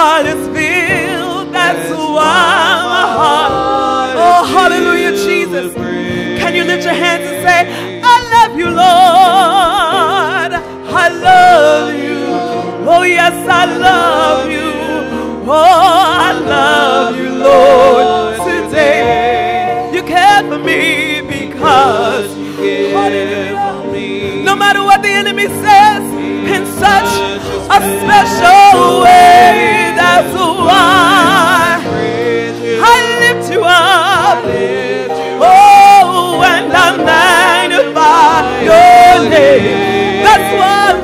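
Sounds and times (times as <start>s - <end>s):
woman singing gospel: 0.0s - 41.0s.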